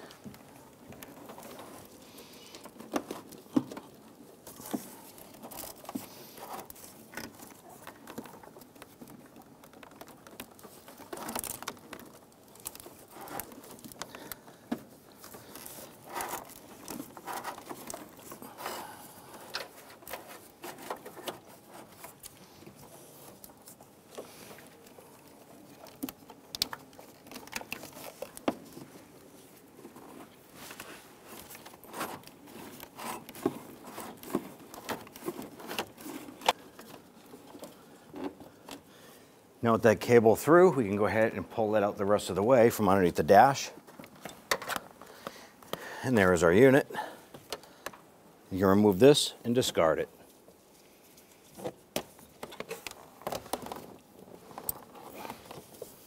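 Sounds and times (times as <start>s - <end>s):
cable rustling and scraping: 0.0s - 56.0s.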